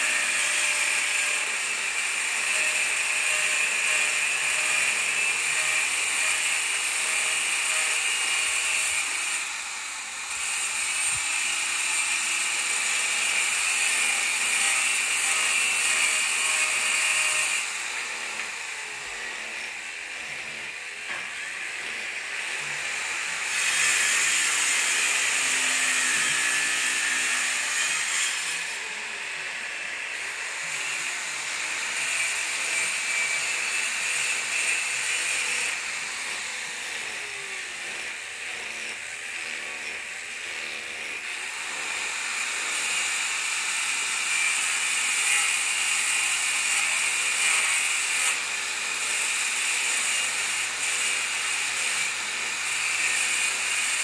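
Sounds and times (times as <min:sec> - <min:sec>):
power tool running: 0:00.0 - 0:54.0.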